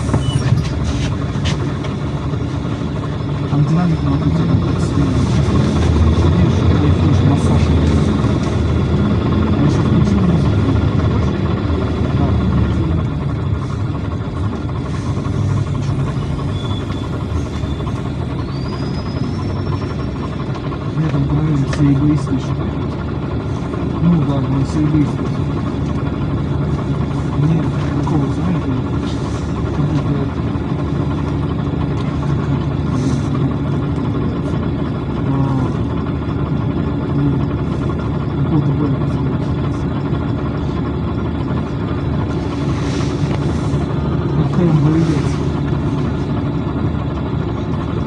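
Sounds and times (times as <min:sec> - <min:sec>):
bus engine rumbling: 0:00.0 - 0:48.0
road and body noise: 0:00.0 - 0:48.0.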